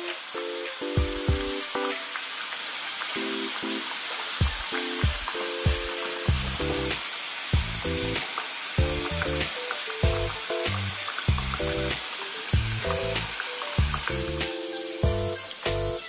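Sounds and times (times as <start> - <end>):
background music with steady beat: 0.0 - 2.3, 3.2 - 16.0
hot oil sizzling: 0.0 - 16.0.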